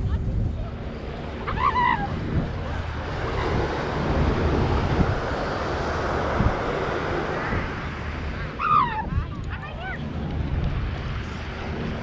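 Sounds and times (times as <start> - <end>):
wind buffeting microphone: 0.0 - 12.0
ocean surf on shore: 0.6 - 12.0.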